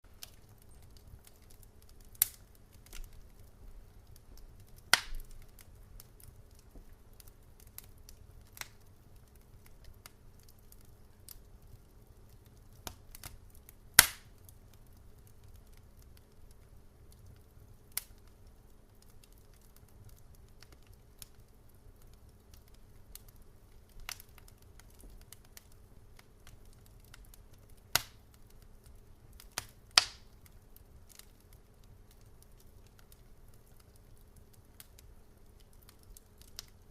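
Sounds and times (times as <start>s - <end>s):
faint low rumble: 0.0s - 36.9s
wood fire crackling: 0.0s - 36.9s.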